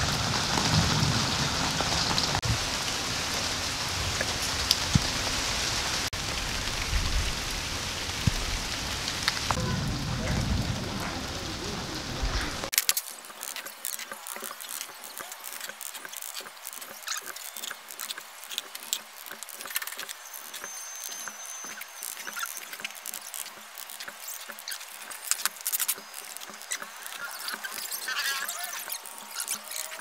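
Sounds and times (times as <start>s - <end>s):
rain on metal roof: 0.0s - 30.0s.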